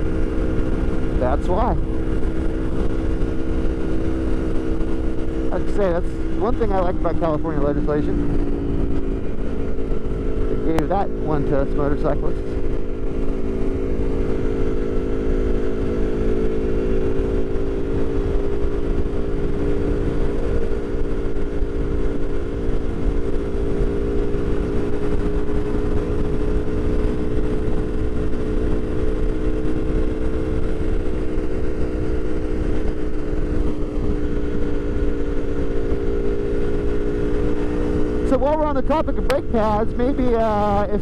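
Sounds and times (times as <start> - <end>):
low wind rumble: 0.0 - 41.0
motorcycle engine cruising: 0.0 - 41.0.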